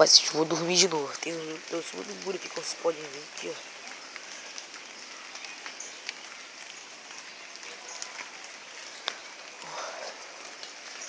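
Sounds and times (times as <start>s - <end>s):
rain falling: 0.0s - 11.0s
raindrops ticking on surfaces: 0.0s - 11.0s.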